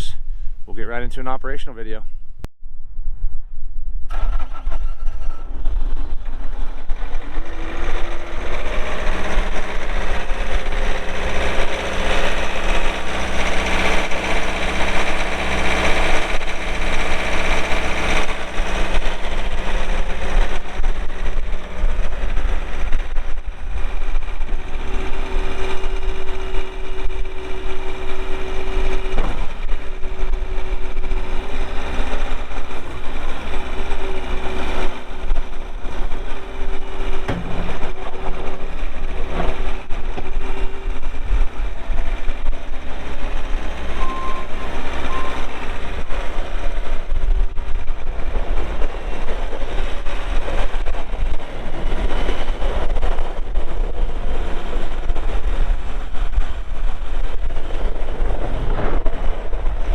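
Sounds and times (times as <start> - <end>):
diesel engine running: 4.1 - 59.9.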